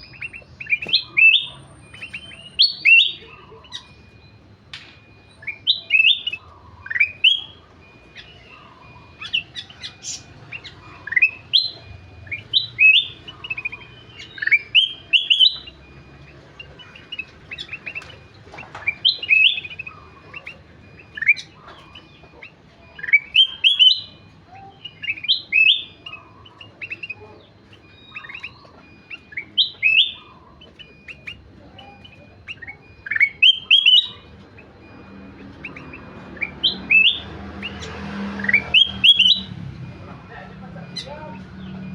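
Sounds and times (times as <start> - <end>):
bulbul singing whistled notes: 0.0 - 40.0.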